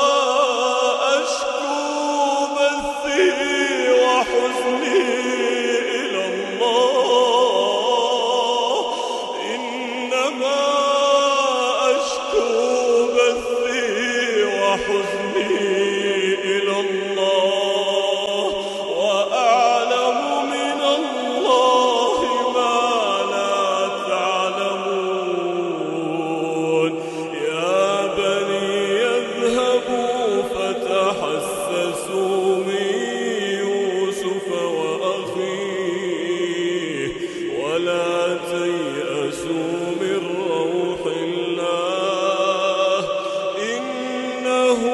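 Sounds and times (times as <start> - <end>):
man chanting melodically: 0.0 - 44.9.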